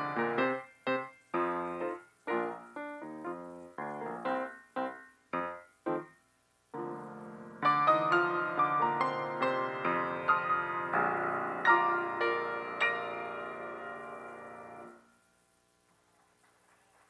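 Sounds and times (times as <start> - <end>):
solo piano chords: 0.0 - 15.2.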